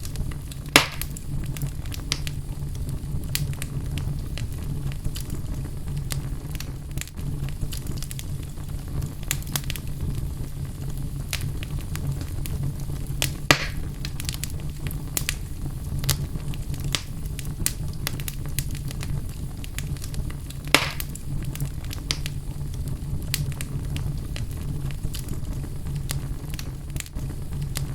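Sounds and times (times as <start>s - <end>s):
fireplace fire crackling: 0.0s - 27.9s
loud fire pops: 0.0s - 27.9s.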